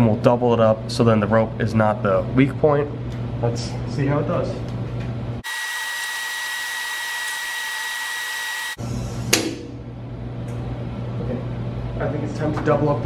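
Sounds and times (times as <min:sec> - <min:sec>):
machine low hum: 0:00.0 - 0:13.0.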